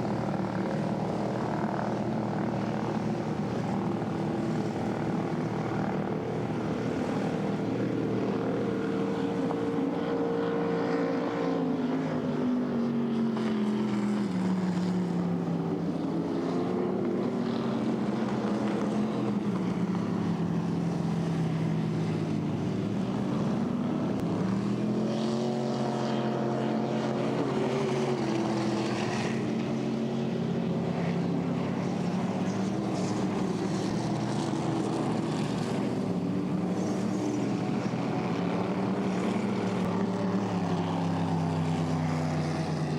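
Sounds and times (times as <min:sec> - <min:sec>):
racing boat engines: 0:00.0 - 0:42.9.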